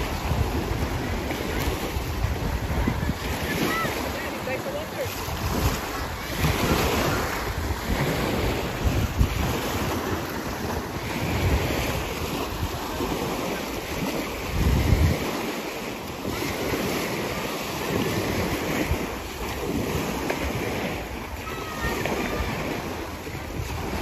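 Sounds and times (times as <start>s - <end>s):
small waves breaking on shore: 0.0s - 24.0s
wind buffeting microphone: 0.0s - 24.0s.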